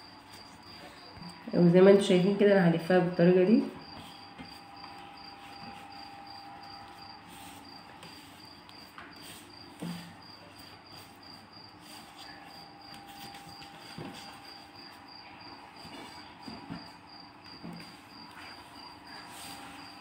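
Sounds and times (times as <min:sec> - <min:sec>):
cricket chirping: 0:00.0 - 0:20.0
faint steady hum: 0:00.0 - 0:20.0.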